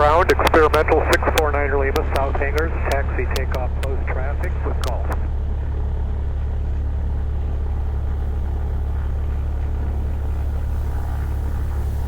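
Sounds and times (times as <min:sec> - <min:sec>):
airplane piston engine droning: 0:00.0 - 0:12.0.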